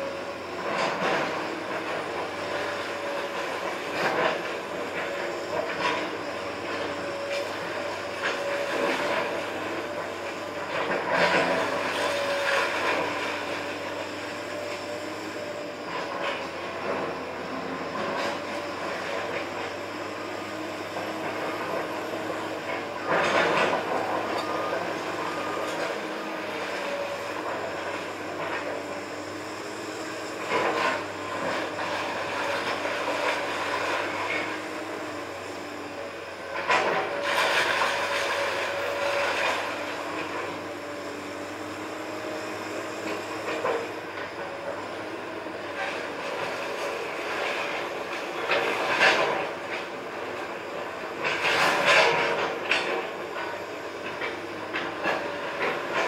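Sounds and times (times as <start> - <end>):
excavator engine and hydraulics humming: 0.0 - 56.0.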